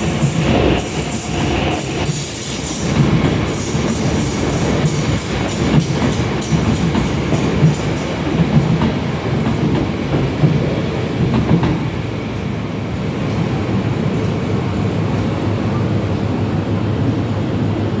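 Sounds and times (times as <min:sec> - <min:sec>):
electric train rumbling on track: 0:00.0 - 0:18.0.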